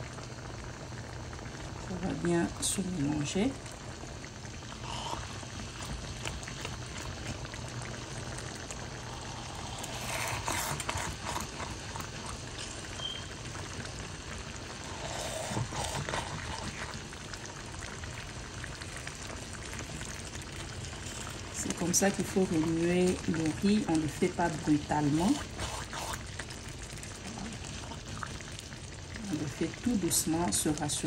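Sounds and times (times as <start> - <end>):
broth bubbling and popping: 0.0 - 31.0.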